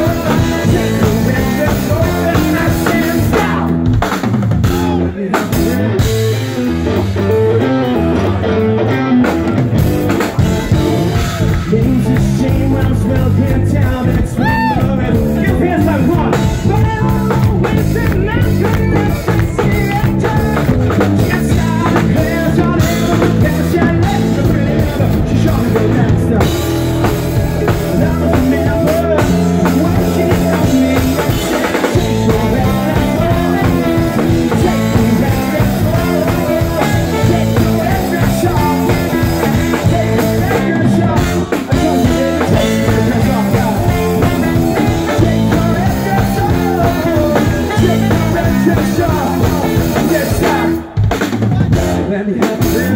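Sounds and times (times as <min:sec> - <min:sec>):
person singing: 0:00.0 - 0:03.9, 0:04.6 - 0:52.9
bass guitar: 0:00.0 - 0:52.9
drum kit: 0:00.0 - 0:52.9
electric guitar: 0:00.0 - 0:52.9.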